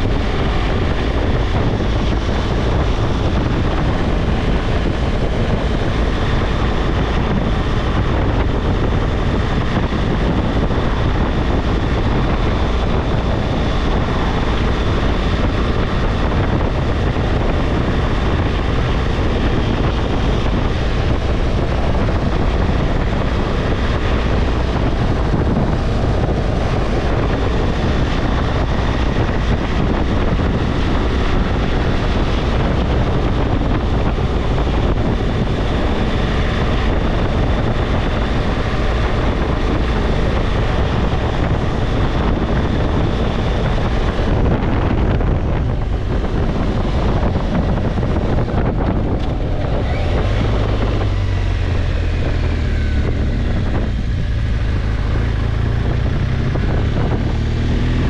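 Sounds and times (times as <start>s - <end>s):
motorcycle engine droning: 0.0s - 58.0s
wind rushing over microphone: 0.0s - 58.0s.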